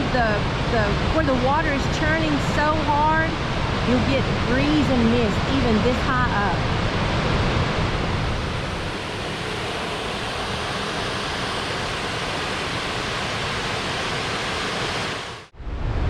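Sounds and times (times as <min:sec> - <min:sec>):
waterfall rushing: 0:00.0 - 0:15.5
wind buffeting microphone: 0:00.0 - 0:16.0.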